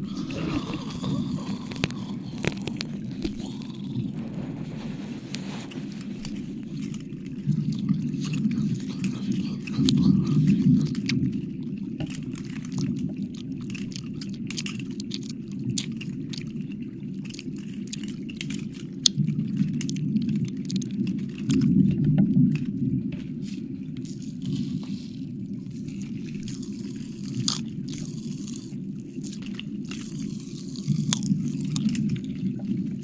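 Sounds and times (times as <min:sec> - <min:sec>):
wet mouth clicks and licks: 0:00.0 - 0:22.7, 0:23.9 - 0:32.9
steady low rumble: 0:00.0 - 0:33.0.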